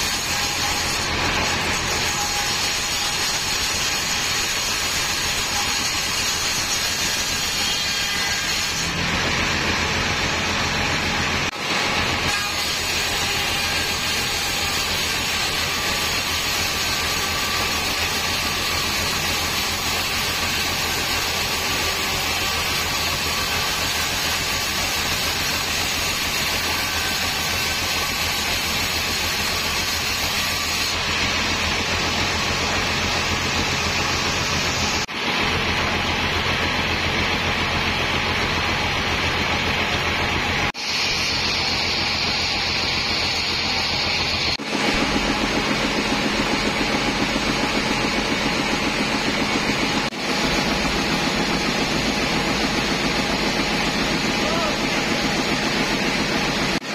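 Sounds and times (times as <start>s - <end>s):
band saw cutting wood: 0.0s - 56.9s.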